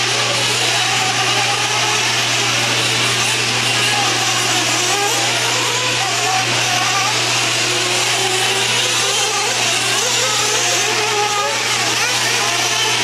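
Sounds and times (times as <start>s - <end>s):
rc car engines revving: 0.0s - 13.0s.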